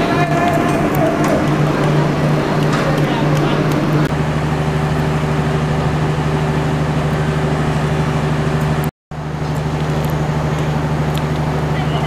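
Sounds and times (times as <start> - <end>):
idling diesel engine hum: 0.0 - 12.0.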